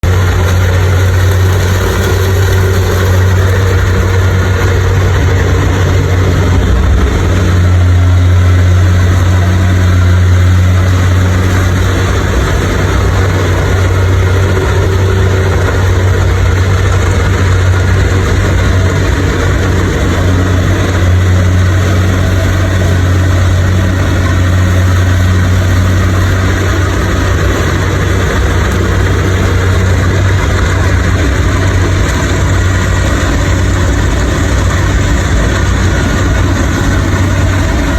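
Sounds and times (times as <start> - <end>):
harvesting machine engine running: 0.0 - 37.9.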